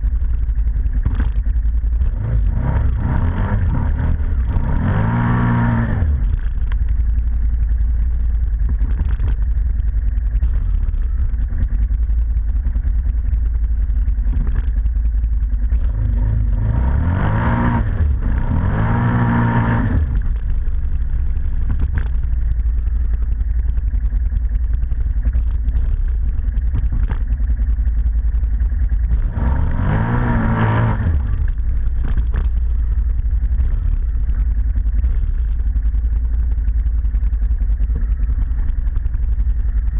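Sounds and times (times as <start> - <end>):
atv engine revving: 0.0 - 12.0, 15.5 - 35.8.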